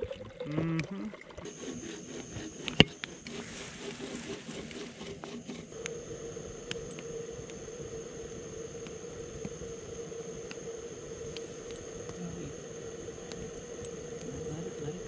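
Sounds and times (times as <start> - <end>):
campfire crackling pops: 1.4 - 15.0
gas burner hissing: 1.4 - 15.0.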